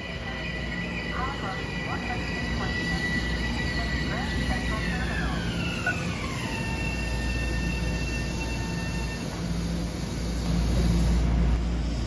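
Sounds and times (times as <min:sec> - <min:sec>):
train high whine: 0:00.0 - 0:12.0
train wheels rumbling on rails: 0:00.0 - 0:12.0.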